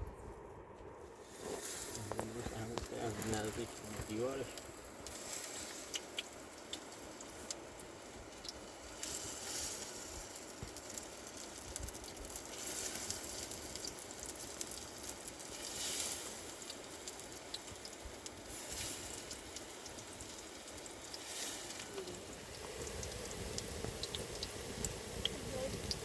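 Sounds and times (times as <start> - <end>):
small crackles and ticks: 0.8 - 26.0
steady hiss: 1.0 - 26.0.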